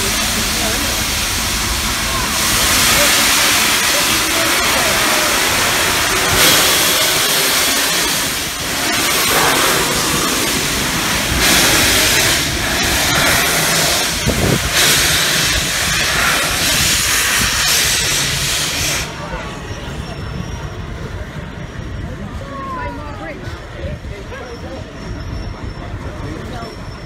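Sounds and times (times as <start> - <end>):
steam locomotive pulling out: 0.0 - 22.5
loud steam hissing: 0.0 - 27.0.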